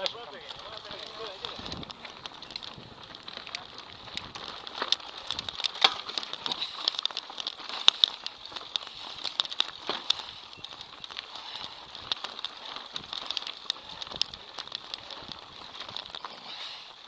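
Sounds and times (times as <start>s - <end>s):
bike rattling over bumps: 0.0s - 17.0s
tyres crunching over gravel: 0.0s - 17.0s.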